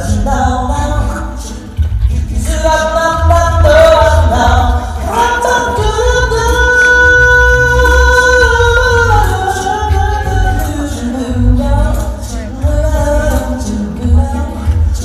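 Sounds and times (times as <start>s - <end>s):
low bass line: 0.0s - 15.0s
male a cappella group singing: 0.0s - 15.0s.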